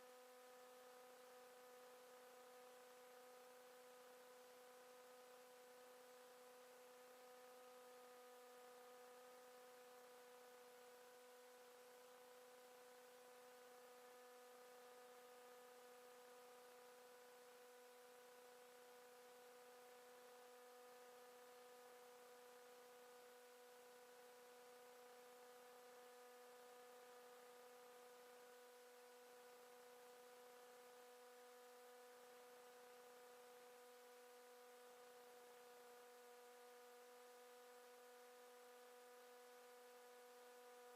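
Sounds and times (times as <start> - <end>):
faint electrical hum: 0.0 - 40.9
light hiss: 0.0 - 40.9.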